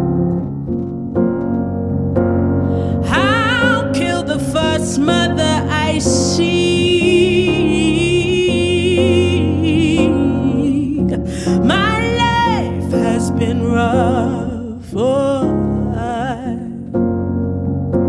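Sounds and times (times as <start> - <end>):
soft piano accompaniment: 0.0 - 18.0.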